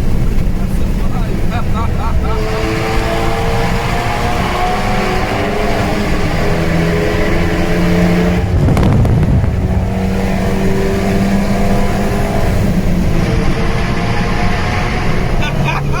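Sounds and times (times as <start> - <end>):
exhaust cracks: 0.0 - 16.0
sports car engine and exhaust: 0.0 - 16.0.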